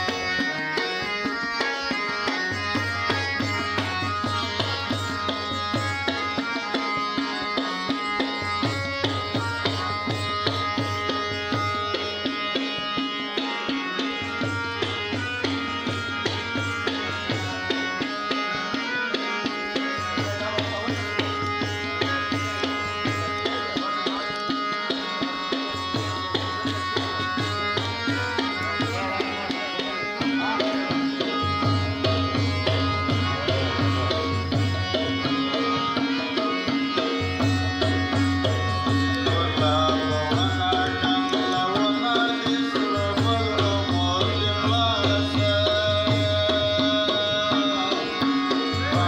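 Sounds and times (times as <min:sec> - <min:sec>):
harmonium melody: 0:00.0 - 0:49.0.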